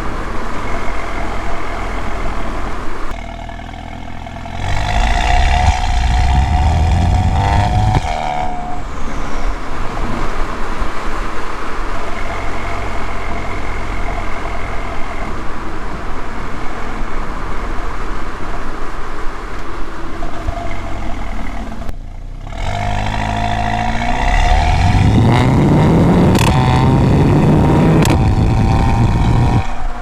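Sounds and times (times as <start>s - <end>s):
car exhaust under acceleration: 0.0s - 30.0s
road noise: 0.0s - 30.0s.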